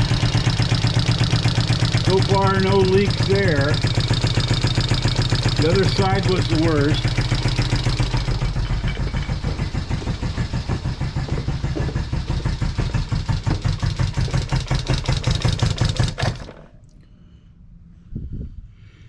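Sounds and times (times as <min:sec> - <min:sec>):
motorcycle engine idling: 0:00.0 - 0:16.7.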